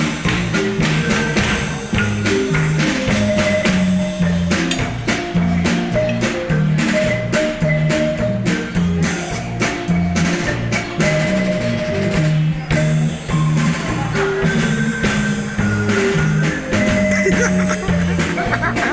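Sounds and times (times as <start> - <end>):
drum kit beat: 0.0 - 18.9
electric bass guitar: 0.0 - 18.9
marimba: 0.0 - 18.9.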